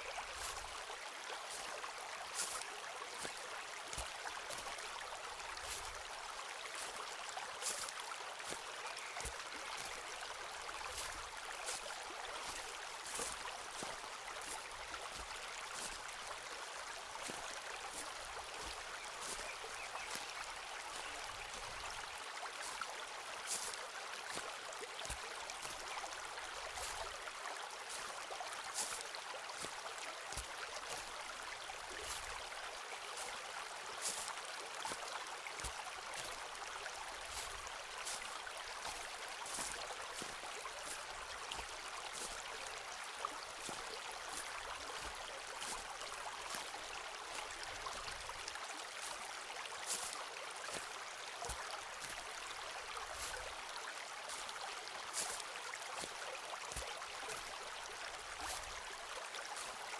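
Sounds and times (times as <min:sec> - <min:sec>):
footsteps crunching on forest path: 0:00.0 - 0:59.9.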